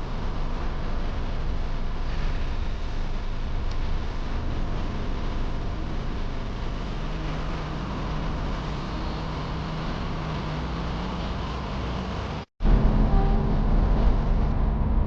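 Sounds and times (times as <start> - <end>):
motor vehicle engine hum: 0.0 - 15.0.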